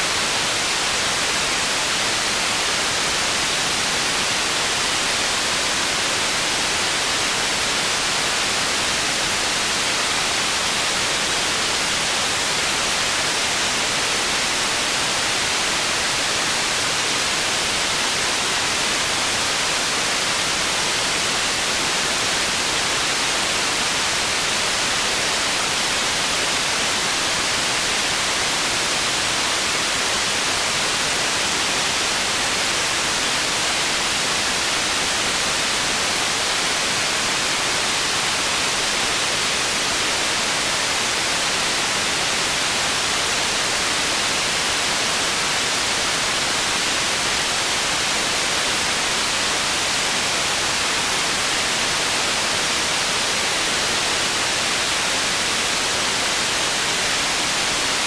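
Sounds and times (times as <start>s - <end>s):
steady white noise hiss: 0.0s - 58.0s.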